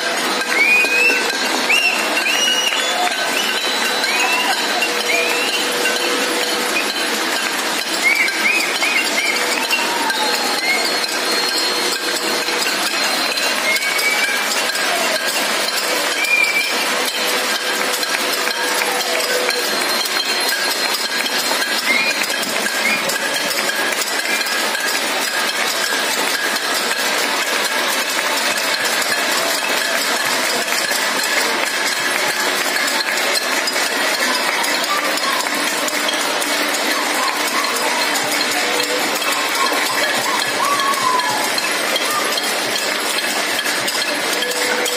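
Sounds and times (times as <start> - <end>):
metal utensils banging: 0.0 - 44.9
people clapping: 0.0 - 44.9.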